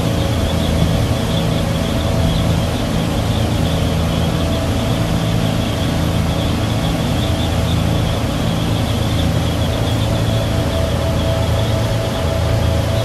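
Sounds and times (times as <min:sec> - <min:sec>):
outboard engines running: 0:00.0 - 0:13.0.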